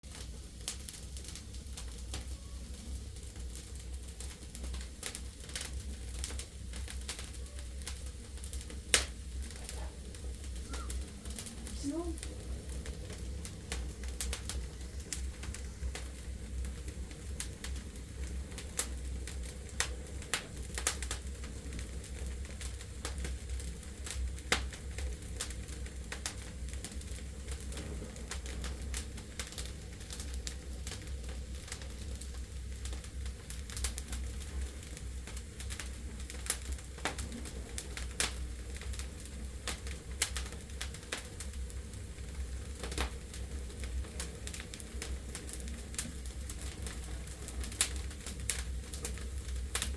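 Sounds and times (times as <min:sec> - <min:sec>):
fire low rumble: 0:00.0 - 0:49.9
logs crackling and popping: 0:00.0 - 0:49.9.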